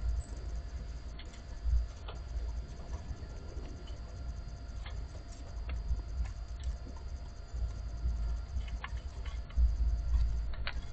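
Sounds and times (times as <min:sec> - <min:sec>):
wind rumbling on microphone: 0:00.0 - 0:10.9.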